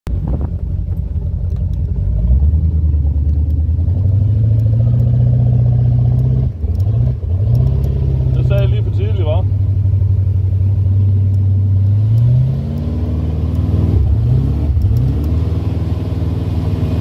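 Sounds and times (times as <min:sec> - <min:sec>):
boat engine revving: 0:00.3 - 0:17.0.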